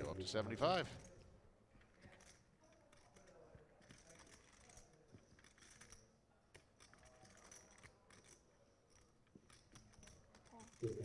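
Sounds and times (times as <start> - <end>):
clay poker chips clicking: 1.8 - 11.0.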